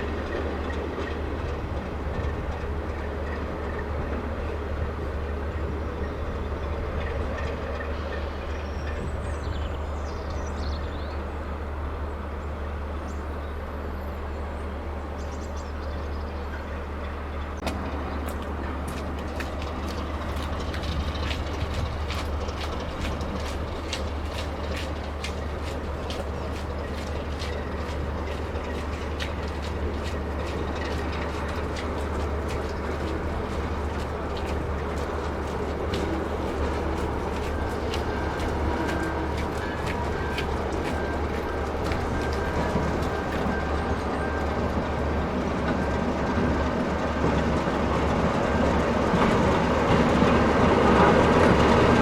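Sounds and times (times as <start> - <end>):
diesel locomotive engine hum: 0.0 - 52.0
moving train stock noise: 0.0 - 52.0.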